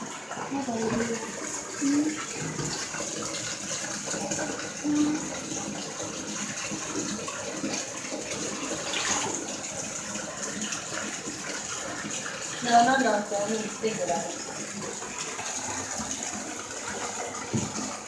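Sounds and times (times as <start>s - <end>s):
tap water running into bathtub: 0.0s - 18.0s.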